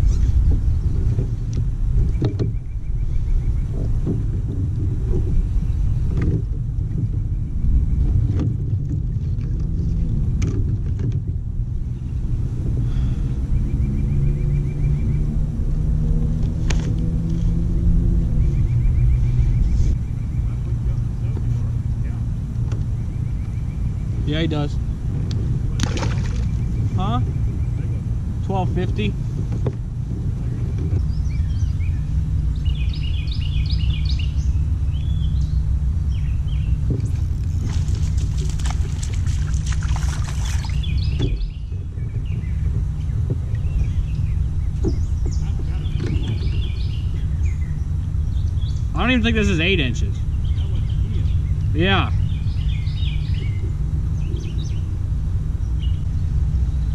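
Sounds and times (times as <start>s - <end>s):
songbirds chirping: 0.0s - 56.9s
wind rumbling on microphone: 0.0s - 56.9s.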